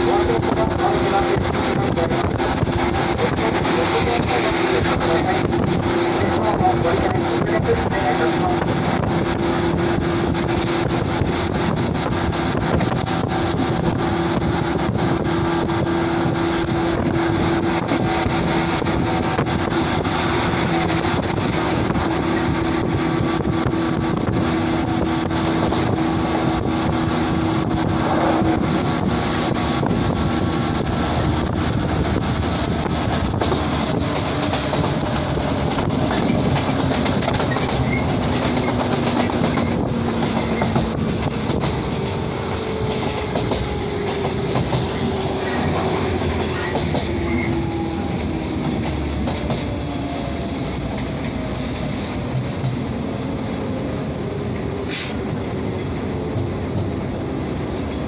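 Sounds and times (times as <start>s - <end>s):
electric train motor whine: 0.0s - 52.3s
wheels clattering on rail: 0.0s - 58.0s
wind buffeting microphone: 0.0s - 58.0s.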